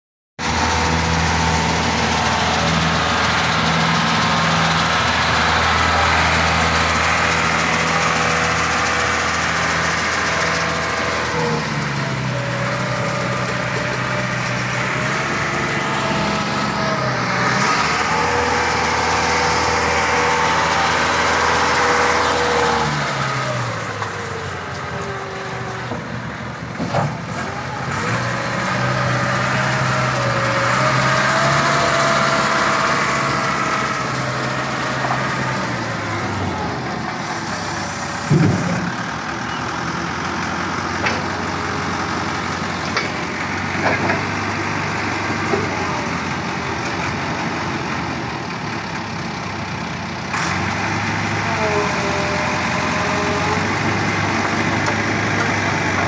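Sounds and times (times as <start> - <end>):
diesel engine revving: 0.4 - 56.0.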